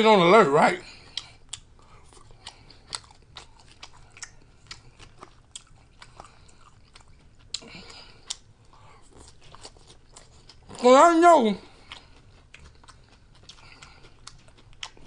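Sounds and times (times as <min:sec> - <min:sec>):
chewing food: 0:00.8 - 0:15.0.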